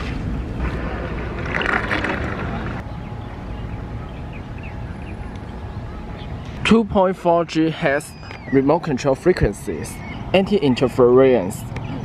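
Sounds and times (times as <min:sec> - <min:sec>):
wind noise on microphone: 0:00.0 - 0:10.9.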